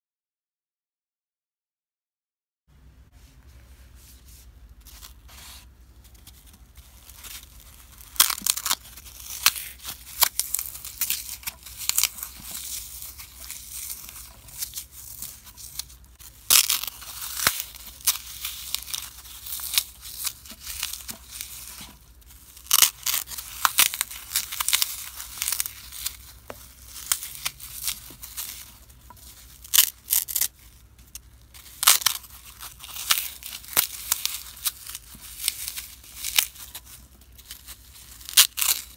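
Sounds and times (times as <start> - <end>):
floral foam crunching: 4.8 - 38.9.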